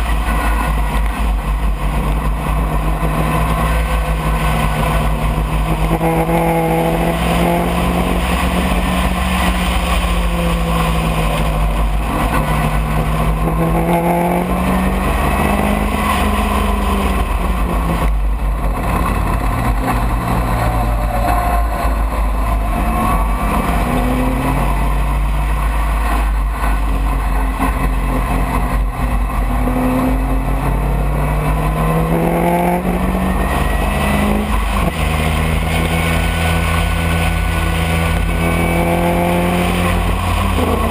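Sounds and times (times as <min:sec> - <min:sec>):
racing car engine revving: 0:00.0 - 0:40.9.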